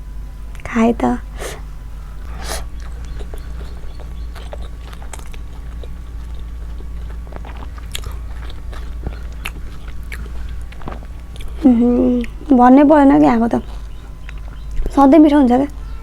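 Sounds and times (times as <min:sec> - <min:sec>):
chewing with wet mouth smacks: 0:00.5 - 0:16.0.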